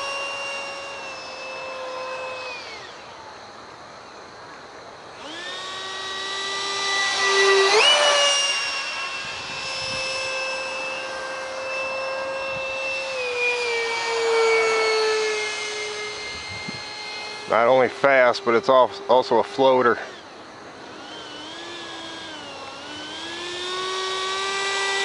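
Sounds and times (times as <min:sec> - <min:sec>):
electric ducted fan whining: 0:00.0 - 0:25.0.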